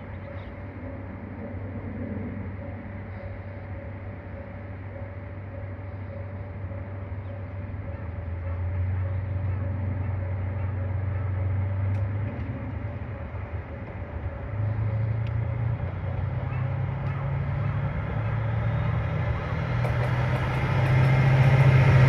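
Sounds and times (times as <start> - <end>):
diesel train engine droning: 0.0 - 22.0
faint engine whine: 0.0 - 22.0.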